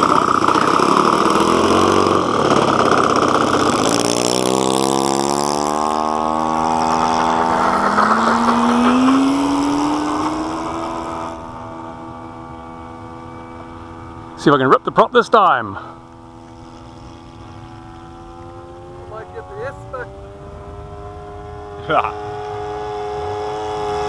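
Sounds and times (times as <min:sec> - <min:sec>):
model airplane engine speeding up: 0:00.0 - 0:24.0.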